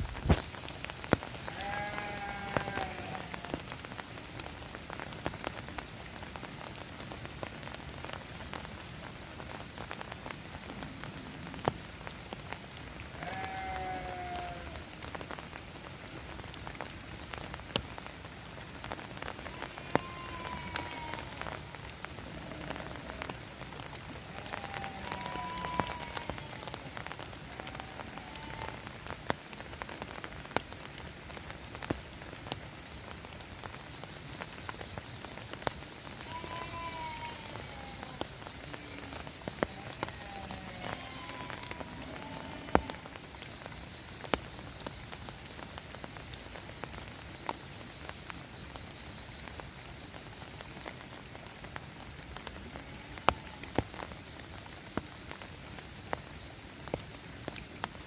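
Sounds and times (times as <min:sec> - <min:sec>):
raindrops ticking on a surface: 0:00.0 - 0:58.0
steady rain falling: 0:00.0 - 0:58.0.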